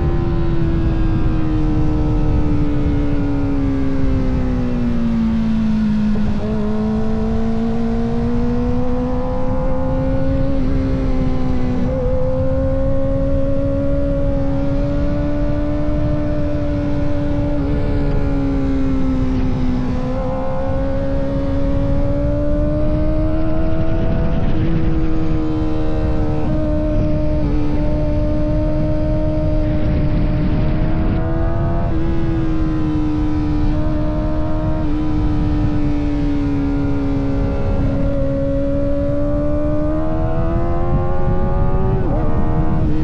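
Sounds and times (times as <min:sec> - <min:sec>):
motorcycle engine at high revs: 0:00.0 - 0:43.0
wind rush on microphone: 0:00.0 - 0:43.0.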